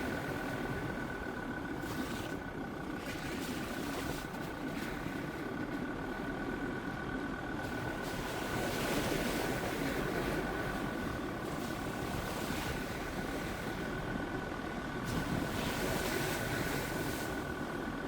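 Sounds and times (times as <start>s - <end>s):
diesel engine and driving noise: 0.0s - 18.0s.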